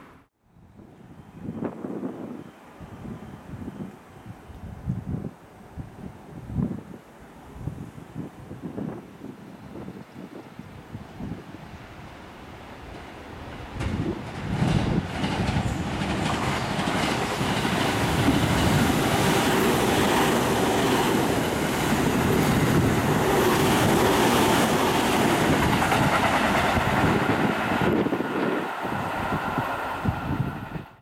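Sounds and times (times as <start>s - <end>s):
electric train passing at speed: 0.0s - 31.0s.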